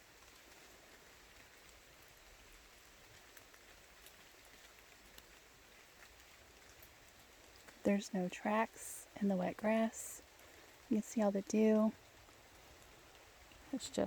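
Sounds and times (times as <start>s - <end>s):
light water drips: 0.0s - 14.0s
rain falling in woods: 0.0s - 14.0s.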